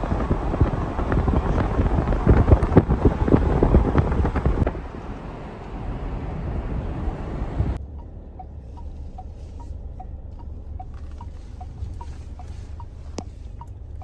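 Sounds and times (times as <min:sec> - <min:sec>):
low engine hum: 0:00.0 - 0:14.0
turn signal ticking: 0:00.0 - 0:14.0
wind and road noise: 0:00.0 - 0:14.0.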